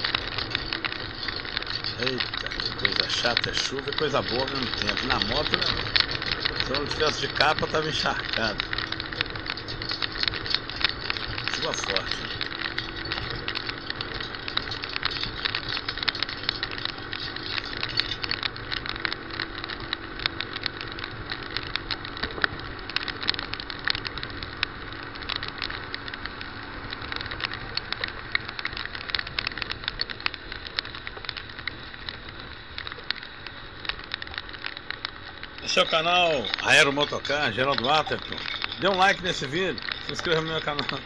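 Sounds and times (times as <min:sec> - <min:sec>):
motorcycle engine hum: 0:00.0 - 0:41.0
raindrops hitting microphone: 0:00.0 - 0:41.0
road noise: 0:00.0 - 0:41.0.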